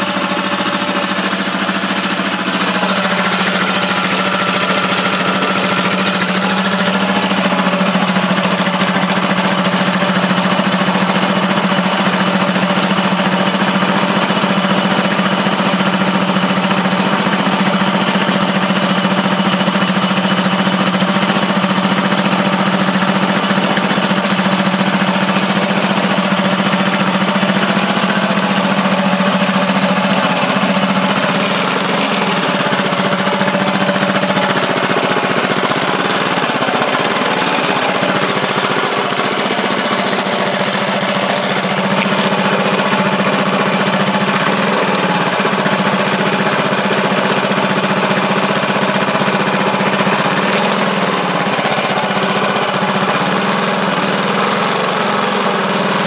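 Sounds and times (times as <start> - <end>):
small engine idling: 0.0 - 56.0.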